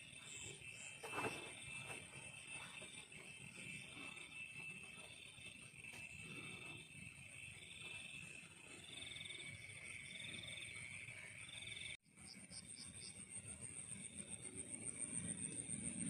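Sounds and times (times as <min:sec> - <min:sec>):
frogs and insects trilling: 0:00.0 - 0:16.0.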